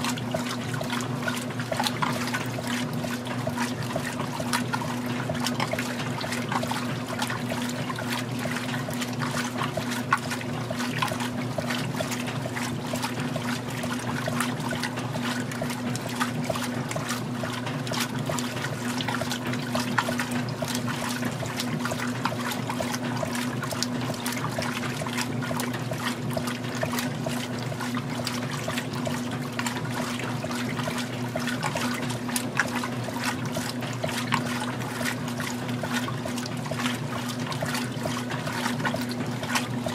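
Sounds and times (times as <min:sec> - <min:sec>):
washing machine motor hum: 0:00.0 - 0:39.9
washing machine water sloshing: 0:00.0 - 0:39.9.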